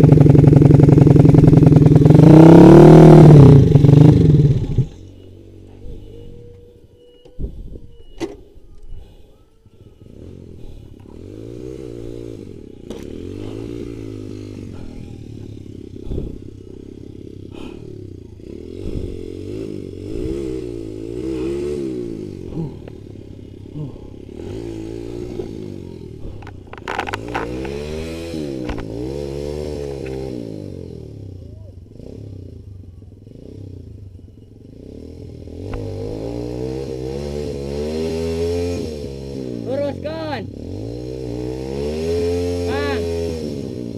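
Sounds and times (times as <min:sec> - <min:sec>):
dirt bike engine revving: 0:00.0 - 0:06.4, 0:10.0 - 0:32.5, 0:33.2 - 0:43.9.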